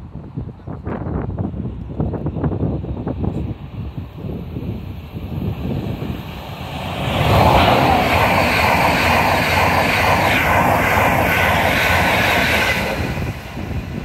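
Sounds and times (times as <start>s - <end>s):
train passing at high speed: 2.5s - 14.0s.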